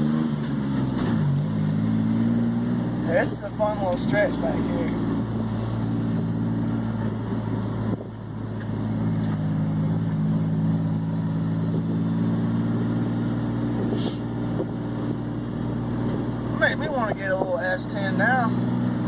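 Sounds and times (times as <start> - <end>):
pickup engine running: 0.0 - 19.0.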